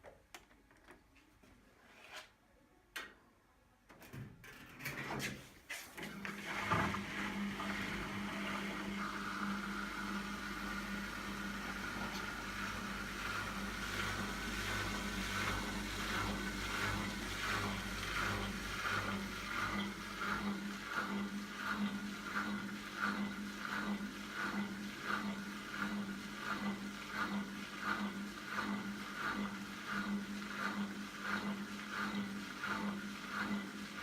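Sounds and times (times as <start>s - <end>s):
washing machine motor humming: 4.0s - 34.0s.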